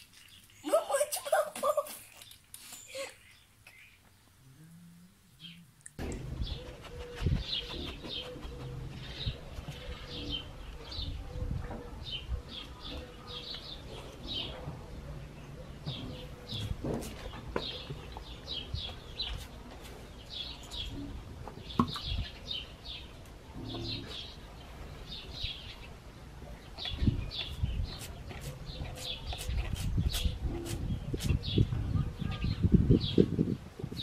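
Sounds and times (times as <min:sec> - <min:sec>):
small birds chirping: 0:00.0 - 0:04.5, 0:05.2 - 0:34.0.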